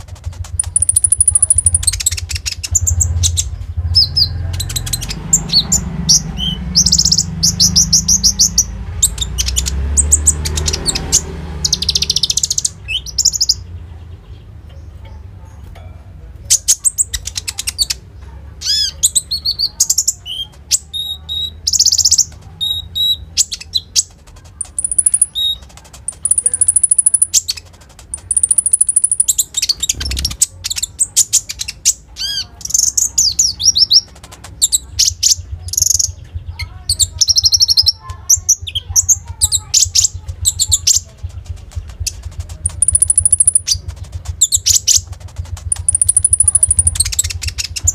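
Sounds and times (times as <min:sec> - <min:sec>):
songbird chirps and trills: 0:00.0 - 0:47.9.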